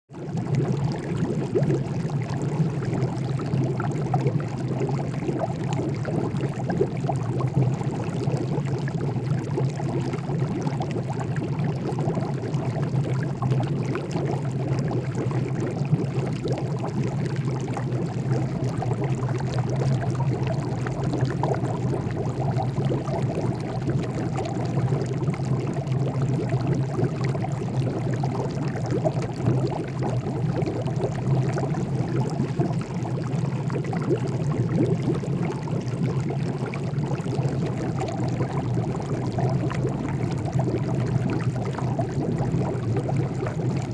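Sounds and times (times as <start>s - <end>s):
water boiling and bubbling: 0.1s - 43.9s.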